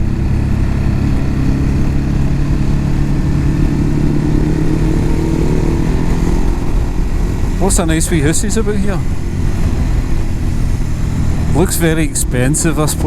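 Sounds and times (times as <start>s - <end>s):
motorcycle engine cruising: 0.0s - 13.0s
road noise: 0.0s - 13.0s
wind rush: 0.0s - 13.0s.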